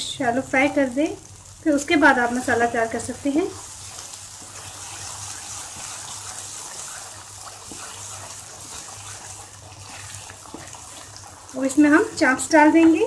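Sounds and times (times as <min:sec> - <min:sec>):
gravy sizzling in hot oil: 0:00.0 - 0:13.0
wooden spatula stirring in pan: 0:01.6 - 0:13.0.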